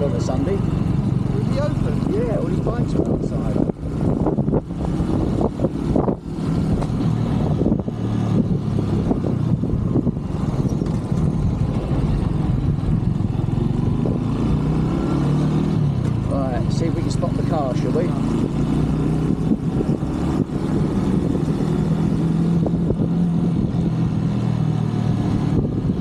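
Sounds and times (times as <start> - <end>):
motorcycle engine running: 0.0 - 26.0
road and wind noise: 0.0 - 26.0.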